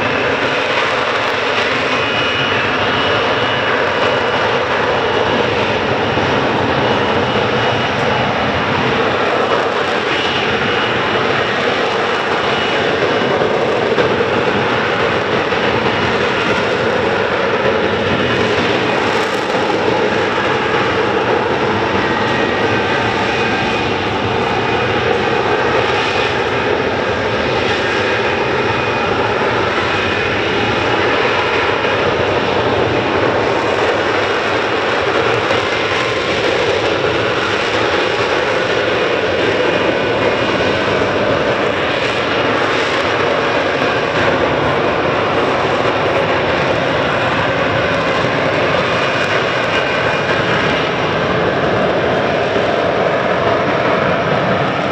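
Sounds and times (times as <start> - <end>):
jet engine roar: 0.0 - 54.9.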